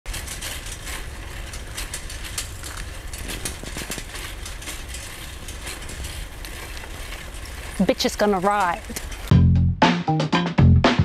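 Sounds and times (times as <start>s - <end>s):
bicycle rattling and clicking: 0.0s - 9.3s
bicycle rolling on pavement: 0.0s - 9.3s.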